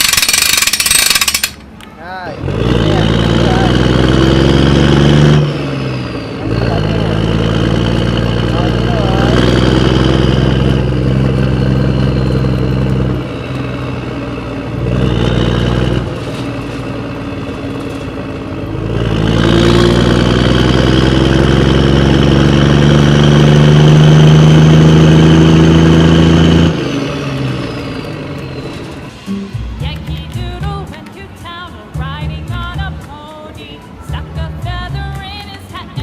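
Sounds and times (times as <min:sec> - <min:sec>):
kiddie ride engine sound: 0:00.0 - 0:36.0.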